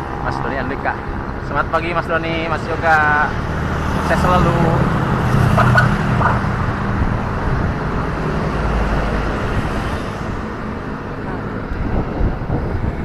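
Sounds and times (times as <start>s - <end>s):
low rumble of traffic: 0.0s - 13.0s
vehicle engine close by: 0.0s - 13.0s.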